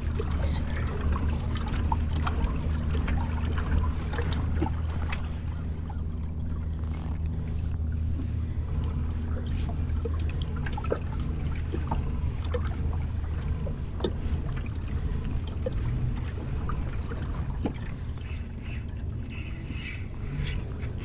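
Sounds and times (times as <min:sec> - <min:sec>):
steady low hum: 0:00.0 - 0:21.0
water plinking against hull: 0:00.0 - 0:21.0.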